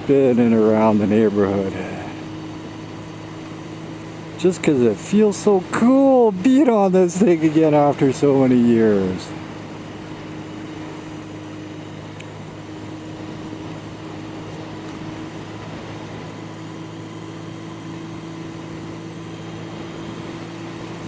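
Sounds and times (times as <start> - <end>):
motorcycle engine running steadily: 0.0 - 21.0.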